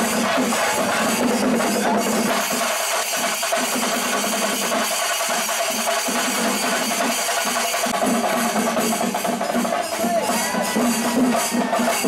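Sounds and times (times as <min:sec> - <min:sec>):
drums and cymbals playing: 0:00.0 - 0:12.0.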